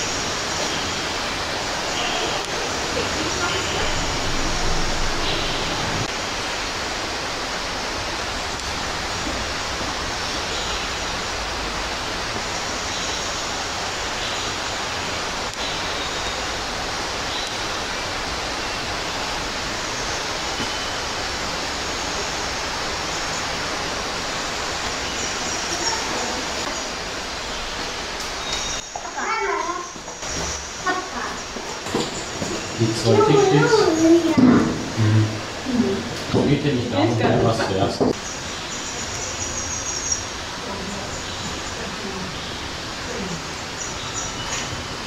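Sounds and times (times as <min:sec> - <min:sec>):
steady rushing noise: 0:00.0 - 0:45.0.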